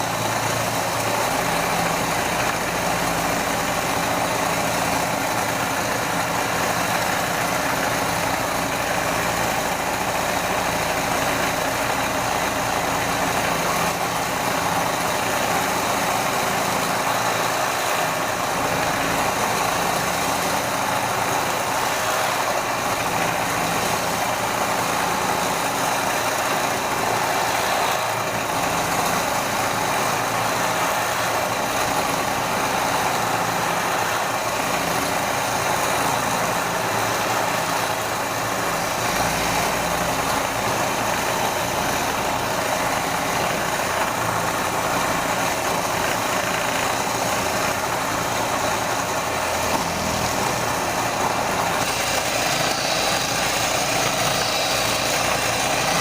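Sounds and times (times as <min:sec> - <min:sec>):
electric motor running: 0:00.1 - 0:56.0.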